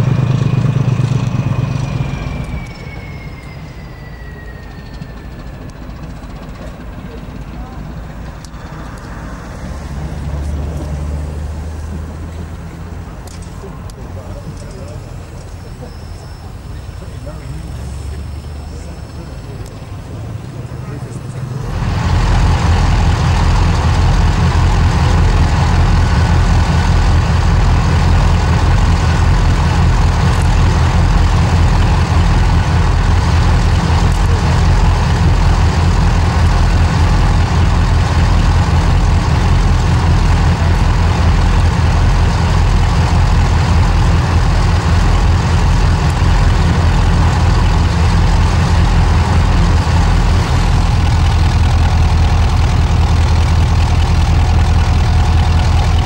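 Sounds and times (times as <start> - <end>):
locomotive engine idling: 0.0 - 56.0.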